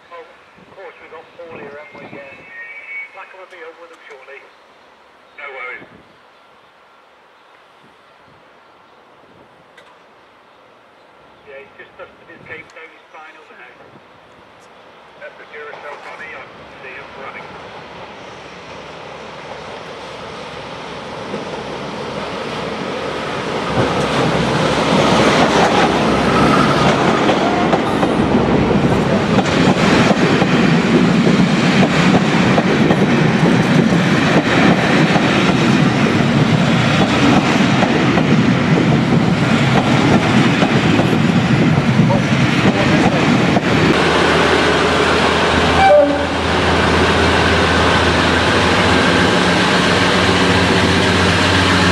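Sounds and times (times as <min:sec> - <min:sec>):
train passing: 0:00.0 - 0:51.9.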